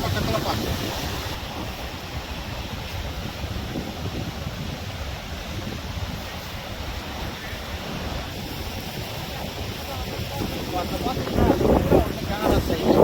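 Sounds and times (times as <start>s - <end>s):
steady rushing roar: 0.0s - 13.0s
wind gusting on microphone: 0.0s - 13.0s.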